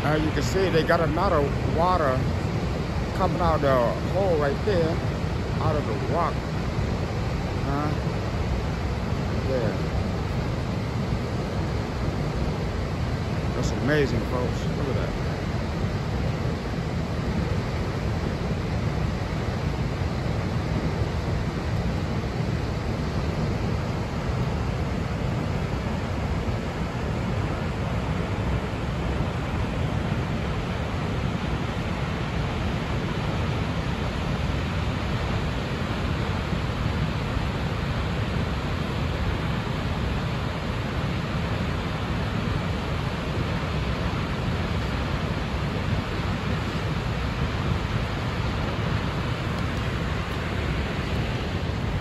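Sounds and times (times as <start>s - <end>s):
waterfall roaring: 0.0s - 52.0s
wind on microphone: 0.0s - 52.0s.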